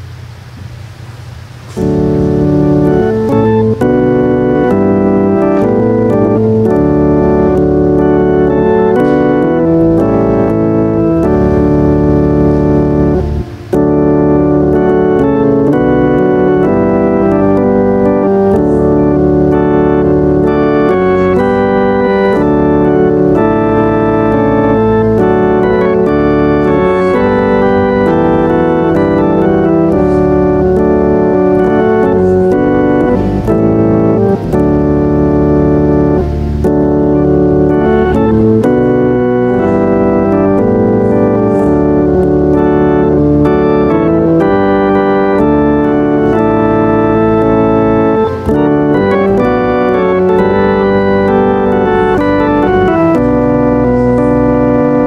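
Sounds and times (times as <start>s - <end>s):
organ playing held chords: 1.4s - 55.0s.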